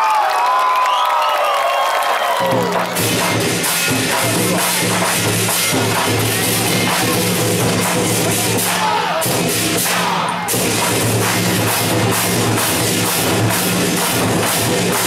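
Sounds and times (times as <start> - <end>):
barrel drums beating rhythmically: 2.4 - 15.0.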